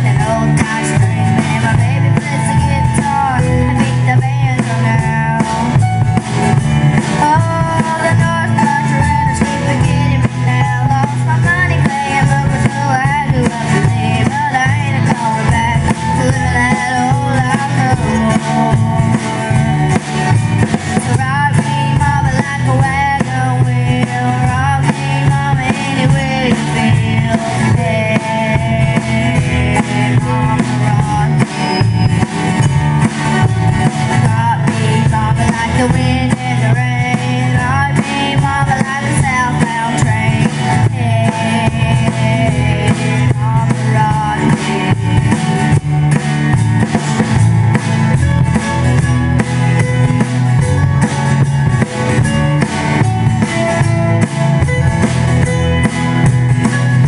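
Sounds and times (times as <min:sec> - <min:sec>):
acoustic guitar: 0:00.0 - 0:57.0
drum kit beat: 0:00.0 - 0:57.0
upright bass: 0:00.0 - 0:57.0.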